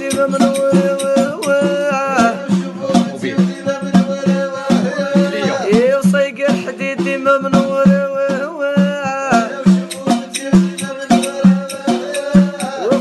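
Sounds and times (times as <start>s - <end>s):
steady percussion beat: 0.0s - 13.0s.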